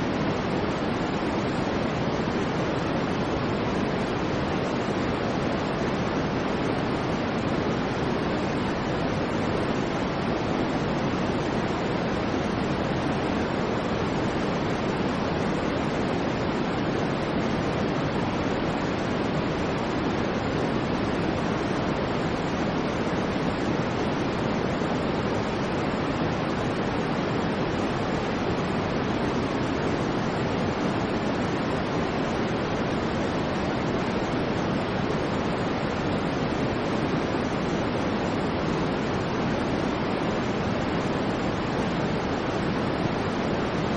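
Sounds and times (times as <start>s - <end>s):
white noise hiss: 0.0s - 43.9s.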